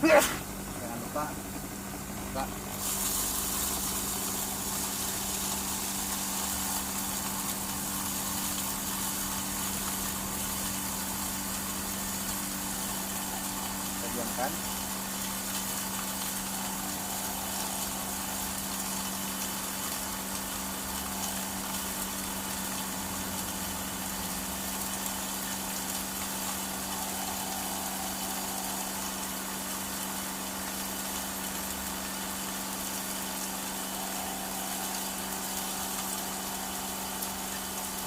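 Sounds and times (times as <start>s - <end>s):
small engine grinding machine hum: 0.0s - 38.0s.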